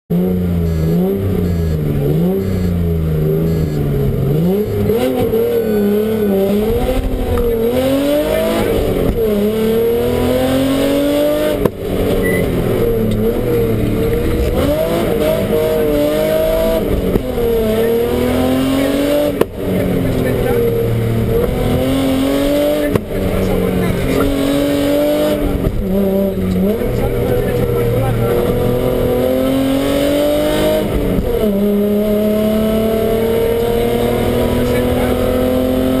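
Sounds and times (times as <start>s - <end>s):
rally car engine revving: 0.1s - 36.0s.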